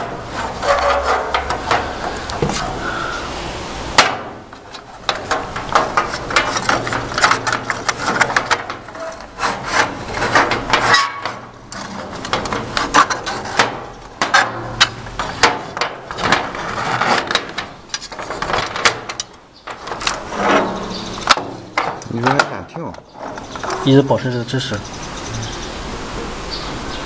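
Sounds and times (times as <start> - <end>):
thin metal clicking and knocking: 0.0 - 2.7, 4.0 - 23.9.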